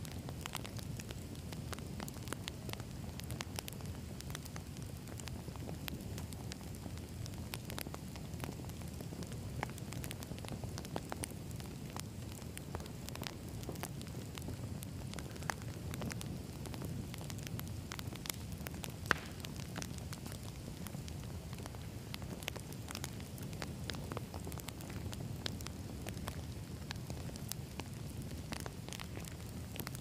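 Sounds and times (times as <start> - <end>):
campfire flame rumble: 0.0 - 30.0
wood crackling and popping: 0.0 - 30.0.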